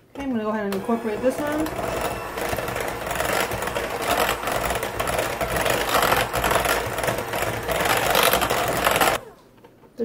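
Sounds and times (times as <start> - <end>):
electric hand mixer whirring: 0.2 - 9.4.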